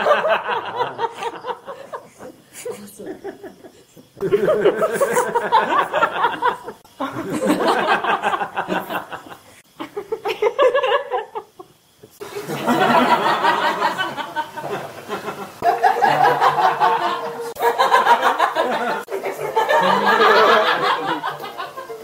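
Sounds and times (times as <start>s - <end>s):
people giggling and chuckling: 0.0s - 22.0s.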